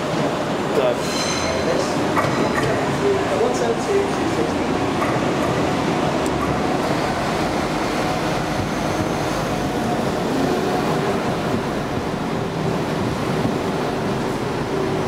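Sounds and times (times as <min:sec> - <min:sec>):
diesel train engine rumble: 0:00.0 - 0:15.0
train wheels on rails: 0:00.0 - 0:15.0.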